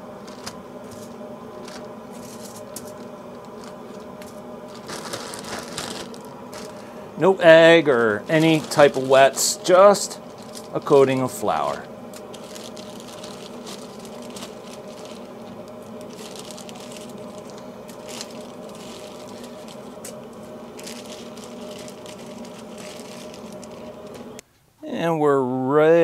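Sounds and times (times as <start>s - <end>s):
plastic bag rustling: 0.0s - 24.4s
steady hum: 0.0s - 26.0s
foil crinkling: 0.2s - 24.4s.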